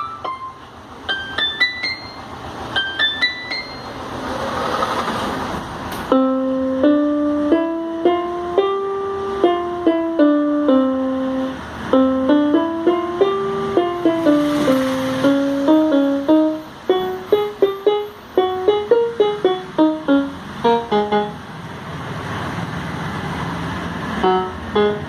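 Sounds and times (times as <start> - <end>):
electronic keyboard melody: 0.0 - 4.4, 6.1 - 21.9, 24.0 - 25.0.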